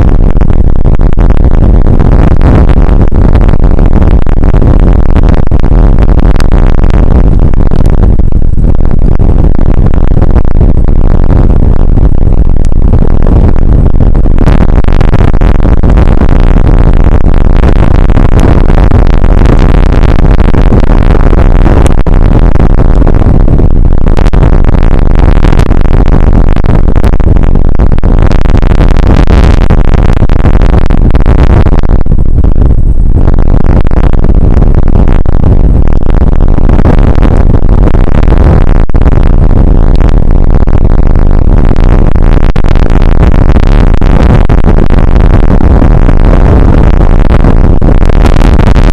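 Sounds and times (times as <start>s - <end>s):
wind noise on microphone: 0.0s - 48.9s.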